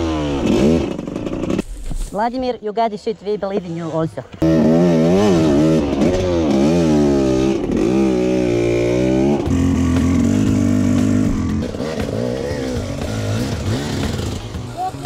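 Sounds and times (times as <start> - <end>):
dirt bike engine revving: 0.0 - 1.7, 4.4 - 15.0.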